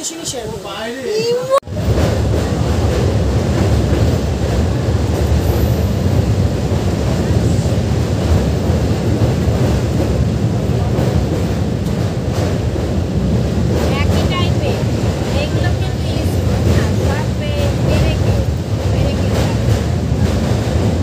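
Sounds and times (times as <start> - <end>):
train rumbling and rattling: 0.0 - 21.0.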